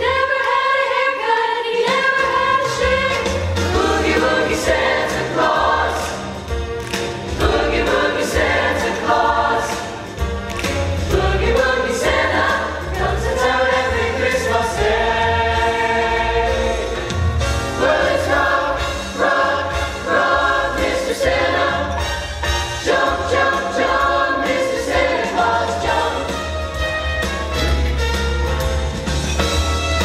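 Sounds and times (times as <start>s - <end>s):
choir singing: 0.0s - 6.6s, 7.2s - 10.3s, 10.9s - 26.8s.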